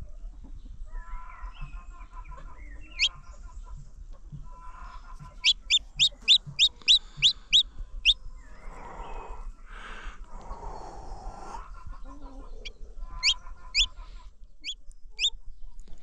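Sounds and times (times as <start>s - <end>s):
chick peeping: 0.0s - 10.6s, 11.3s - 16.0s.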